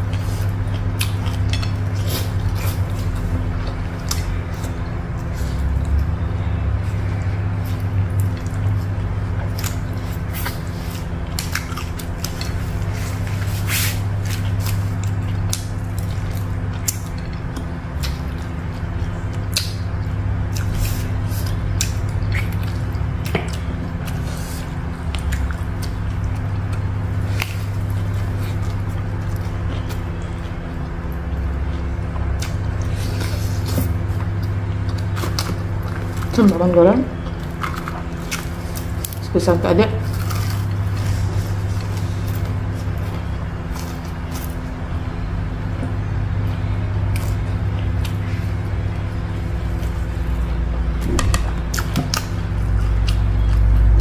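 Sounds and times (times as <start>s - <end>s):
person chewing food: 0.0s - 39.3s, 40.0s - 54.0s
low hum: 0.0s - 54.0s.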